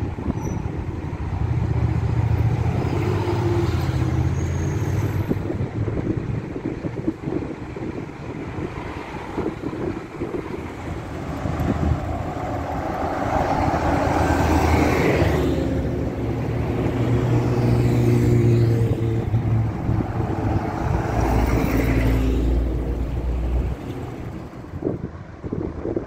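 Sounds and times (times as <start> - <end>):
cars driving by: 0.0 - 26.0
low engine hum: 5.0 - 26.0.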